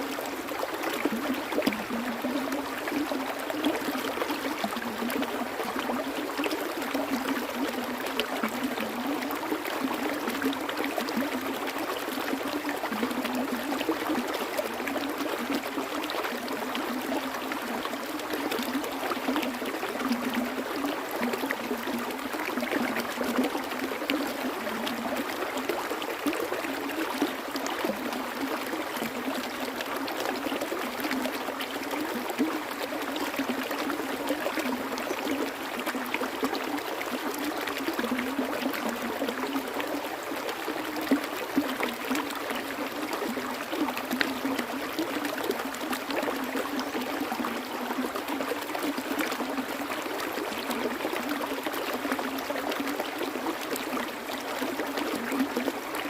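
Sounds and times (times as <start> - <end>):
small stream running: 0.0 - 56.0.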